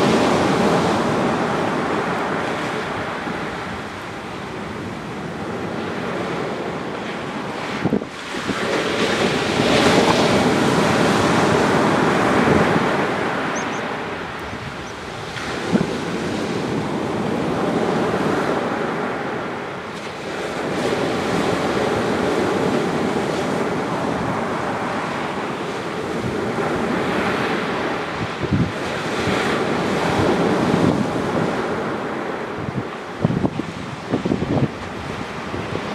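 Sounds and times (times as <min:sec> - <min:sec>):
surf breaking on sandy beach: 0:00.0 - 0:35.9.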